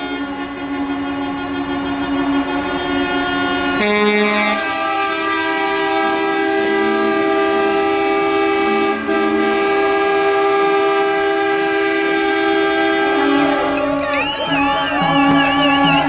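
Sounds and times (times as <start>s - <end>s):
truck air horns blaring: 0.0s - 16.0s.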